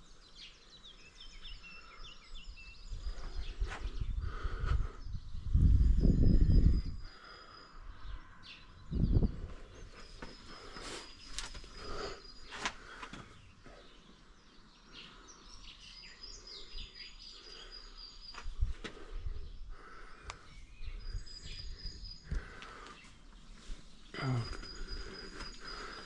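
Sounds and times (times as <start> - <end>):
faint outdoor background: 0.0 - 26.0
small birds whistling and chirping: 0.0 - 26.0.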